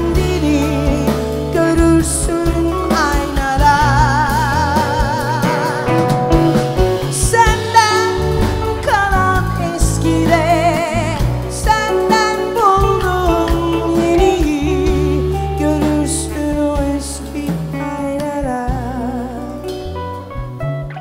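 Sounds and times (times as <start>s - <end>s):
woman singing with vibrato: 0.0s - 6.4s, 7.0s - 19.9s
bass: 0.0s - 21.0s
drums: 0.0s - 21.0s
electric guitar: 0.0s - 21.0s.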